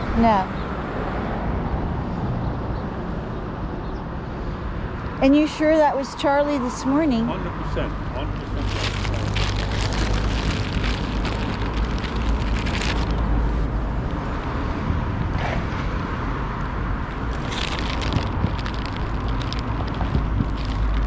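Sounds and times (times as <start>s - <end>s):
road traffic rumble: 0.0s - 21.0s
constant low hum: 2.4s - 21.0s.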